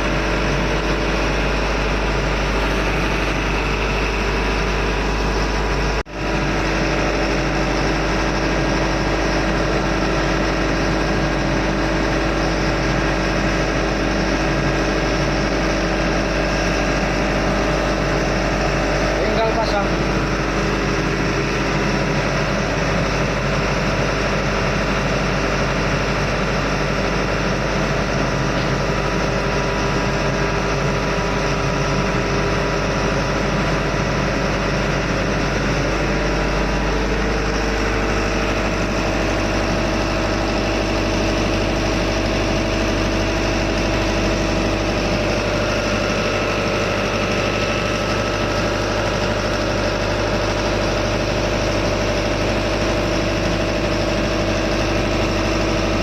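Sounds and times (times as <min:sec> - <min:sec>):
diesel engines humming: 0:00.0 - 0:56.0.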